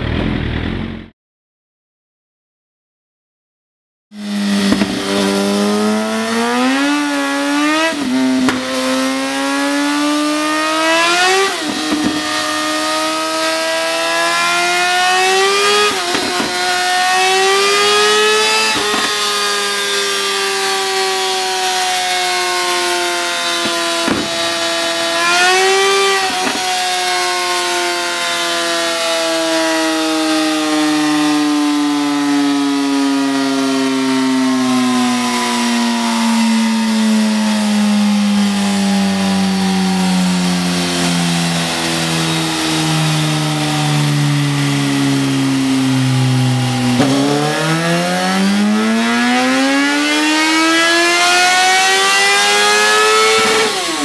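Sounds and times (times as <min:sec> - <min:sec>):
motorcycle engine revving: 0:00.0 - 0:01.1, 0:04.2 - 0:54.0.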